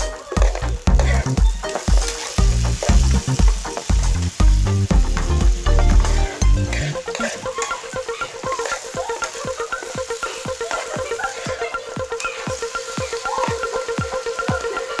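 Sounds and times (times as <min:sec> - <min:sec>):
chicken feet sizzling in oil: 0:00.0 - 0:15.0.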